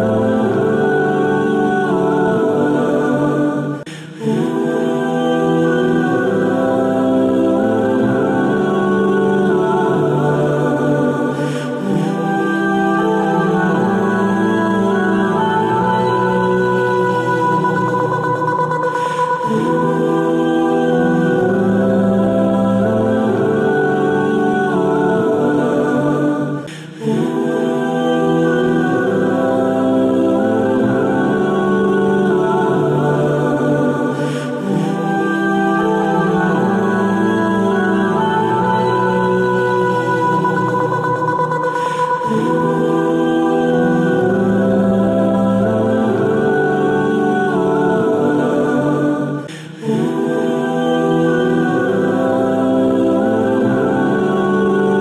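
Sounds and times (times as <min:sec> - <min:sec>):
choir voices holding long notes: 0:00.0 - 0:55.0.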